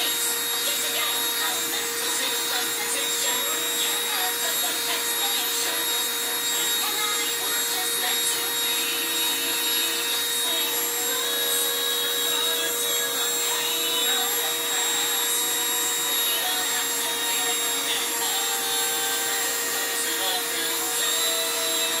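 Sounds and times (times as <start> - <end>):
rotary drill grinding glass: 0.0 - 22.0.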